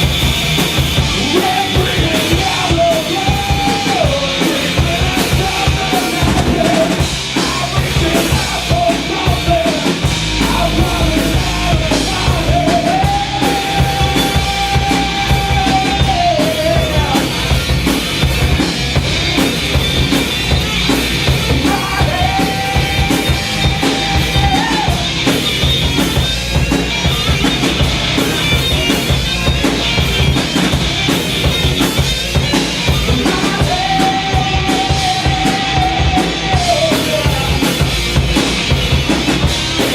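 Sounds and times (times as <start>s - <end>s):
drum kit with crashing cymbals: 0.0s - 39.9s
heavy rock band playing live: 0.0s - 39.9s.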